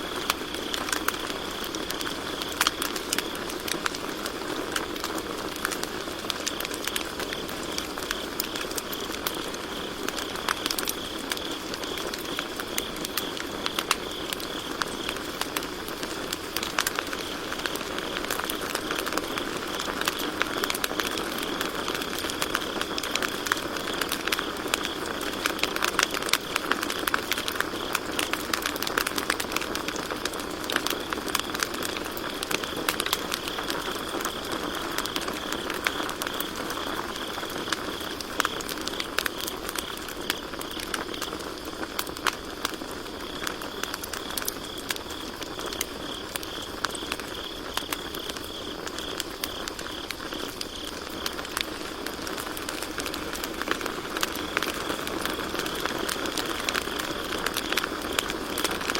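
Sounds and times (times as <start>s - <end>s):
campfire crackling: 0.0s - 58.9s
crickets chirping: 0.0s - 58.9s.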